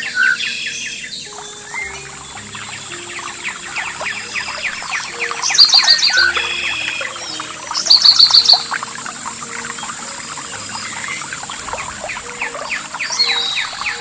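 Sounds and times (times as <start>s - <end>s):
faint trickle of water: 0.0s - 14.0s
songbirds singing: 0.0s - 14.0s.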